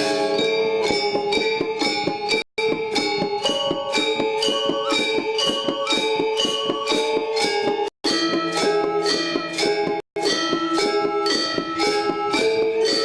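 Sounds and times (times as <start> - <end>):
metallophones ringing notes: 0.0 - 13.0.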